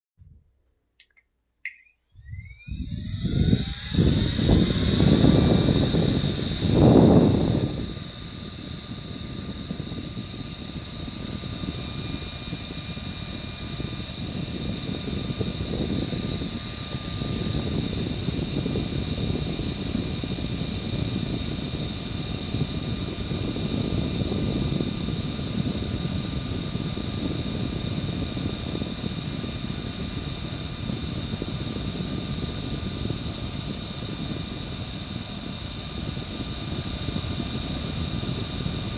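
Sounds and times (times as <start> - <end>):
electric fan whirring: 2.1 - 38.9.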